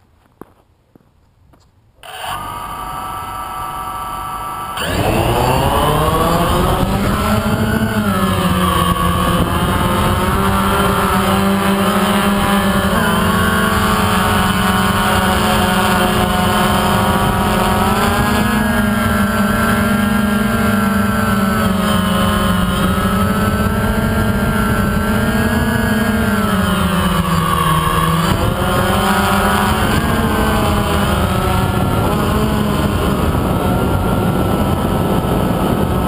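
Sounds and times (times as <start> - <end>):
drone propellers buzzing: 2.0 - 36.0.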